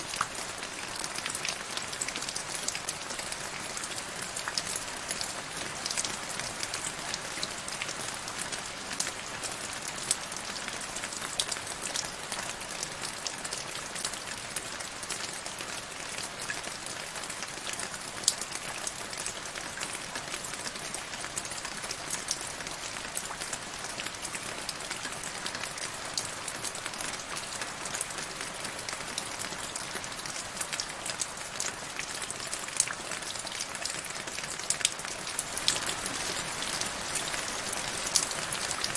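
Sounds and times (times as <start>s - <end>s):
rain falling into puddle: 0.0s - 38.9s.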